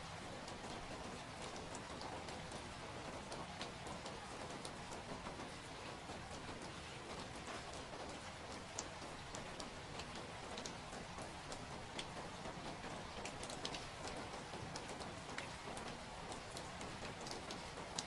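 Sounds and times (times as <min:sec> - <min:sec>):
raindrops ticking on a surface: 0:00.0 - 0:18.0
steady rain hiss: 0:00.0 - 0:18.0.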